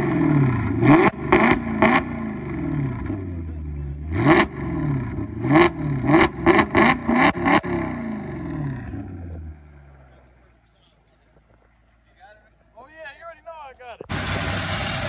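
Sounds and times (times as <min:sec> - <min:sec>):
car engine idling and revving: 0:00.0 - 0:12.6, 0:14.0 - 0:15.0.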